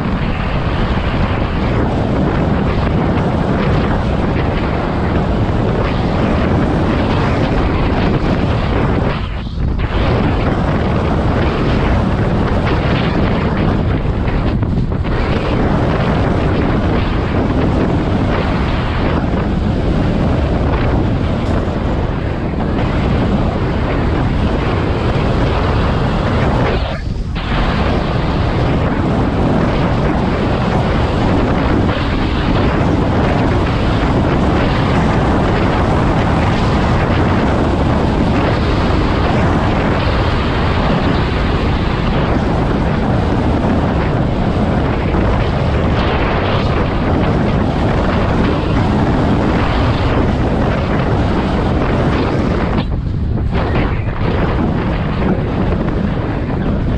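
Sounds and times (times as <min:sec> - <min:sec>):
wind roaring over microphone: 0:00.0 - 0:56.9.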